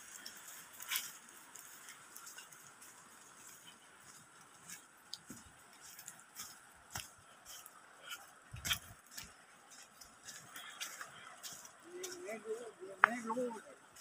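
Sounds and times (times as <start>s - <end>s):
faint steady hiss: 0.0s - 14.0s
footsteps splashing through wet sand: 0.0s - 14.0s.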